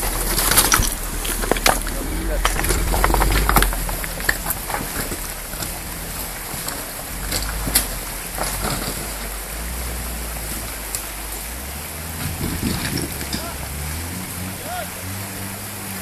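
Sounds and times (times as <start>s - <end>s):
stones clicking under tyres: 0.0s - 11.5s, 12.2s - 13.7s
stream rushing: 0.0s - 16.0s
vehicle engine running: 0.0s - 16.0s.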